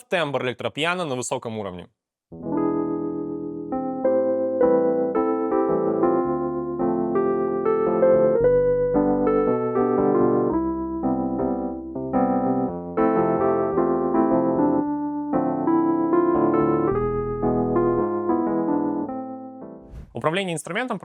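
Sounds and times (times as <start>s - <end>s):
electric piano chords: 2.3s - 19.8s.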